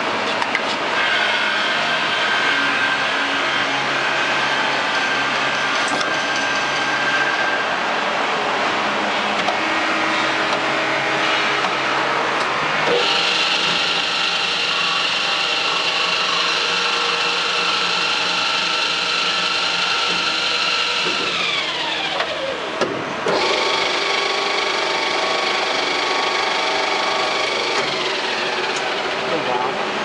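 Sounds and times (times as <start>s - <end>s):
milling machine spindle whine: 0.1s - 30.0s.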